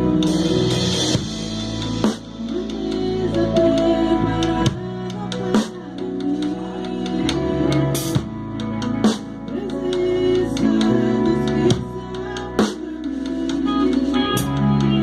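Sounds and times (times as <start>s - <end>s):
bass: 0.0s - 15.0s
drum kit: 0.0s - 15.0s
electric guitar: 0.0s - 15.0s
keyboard: 0.0s - 15.0s.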